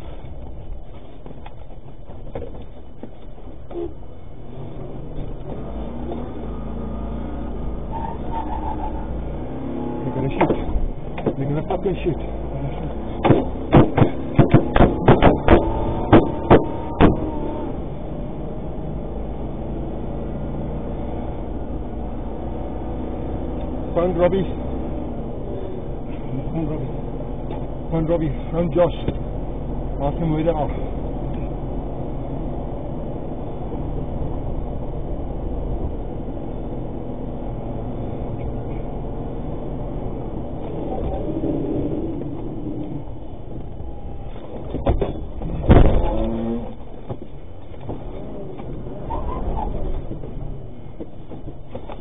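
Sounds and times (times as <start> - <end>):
vehicle engine and road noise: 0.0 - 52.0.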